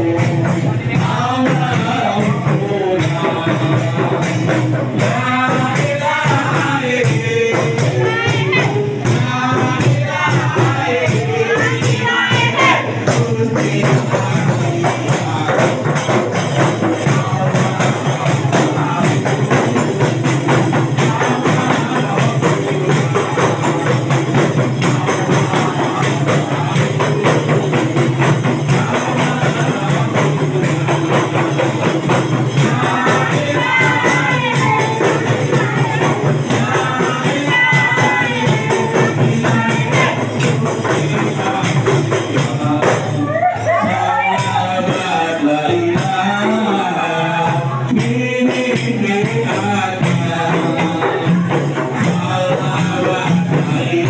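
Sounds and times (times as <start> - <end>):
percussion beat: 0.0 - 54.0
women singing: 0.0 - 54.0.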